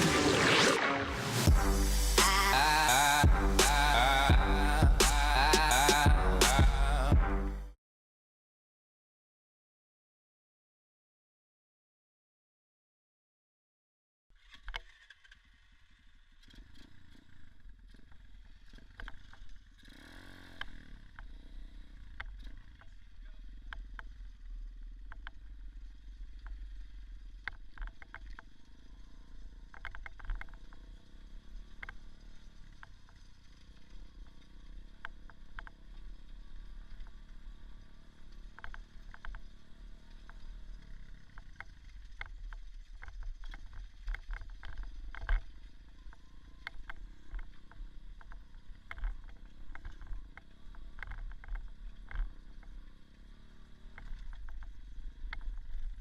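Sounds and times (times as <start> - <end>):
dirt bike engine running: 0.0 - 7.7, 14.8 - 56.0.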